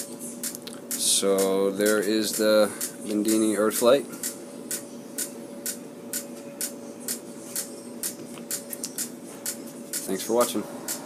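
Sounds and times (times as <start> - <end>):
faint steady hum: 0.0 - 11.0
sharp regular clicking: 0.4 - 3.0, 4.2 - 11.0.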